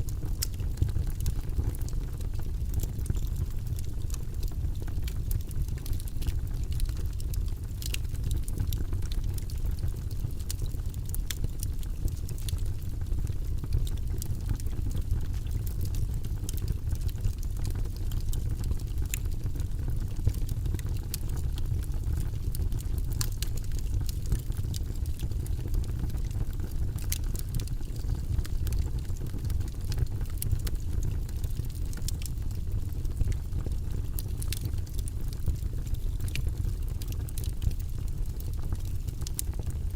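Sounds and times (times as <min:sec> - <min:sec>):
fire flames rumbling: 0:00.0 - 0:39.9
wood crackling and popping: 0:00.0 - 0:39.9.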